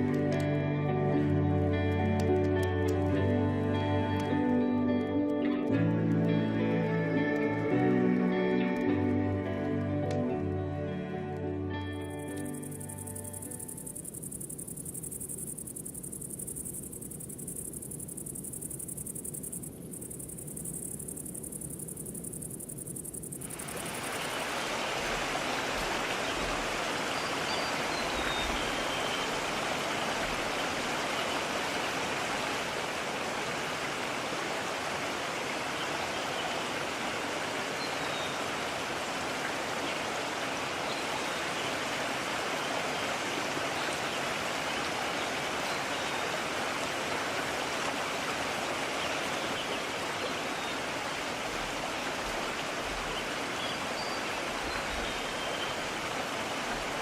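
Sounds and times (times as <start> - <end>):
stream rushing: 5.9 - 57.0.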